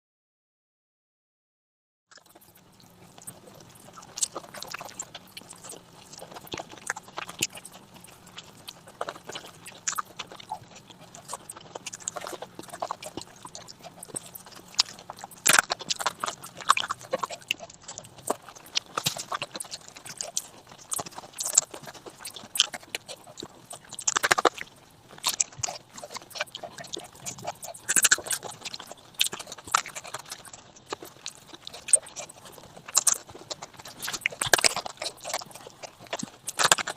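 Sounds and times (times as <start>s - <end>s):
lip smacks: 2.1s - 36.9s
mouth clicks: 2.1s - 36.9s
person chewing food: 2.1s - 36.9s.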